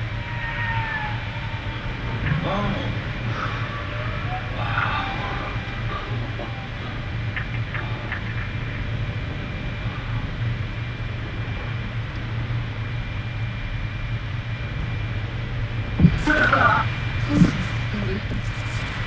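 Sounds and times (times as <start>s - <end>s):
faint high whine: 0.0s - 19.0s
machinery rumble and hum: 0.0s - 19.0s.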